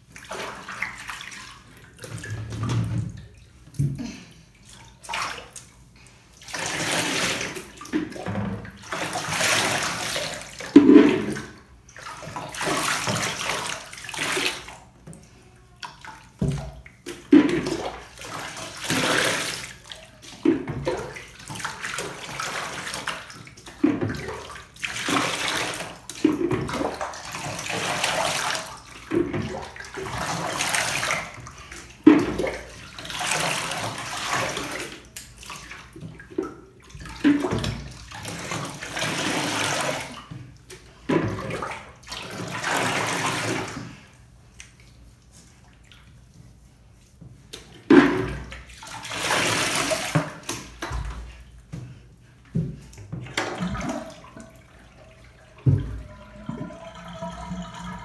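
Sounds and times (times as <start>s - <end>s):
water splashing and pouring: 4.6s - 15.0s, 16.0s - 46.2s, 47.8s - 52.0s, 52.9s - 58.0s.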